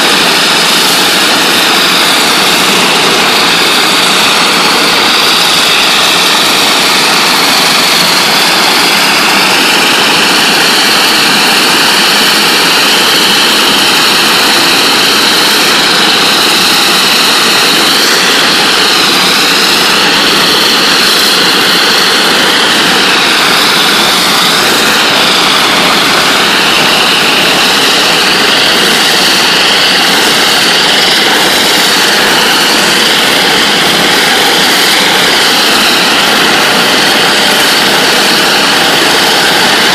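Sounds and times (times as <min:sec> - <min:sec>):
water jet hissing scream: 0:00.0 - 0:39.9.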